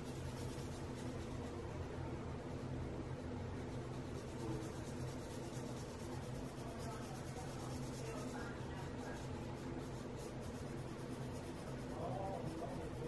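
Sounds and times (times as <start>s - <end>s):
marker scratching on paper: 0.0s - 1.8s, 2.4s - 13.0s
steady low hum: 0.0s - 13.0s.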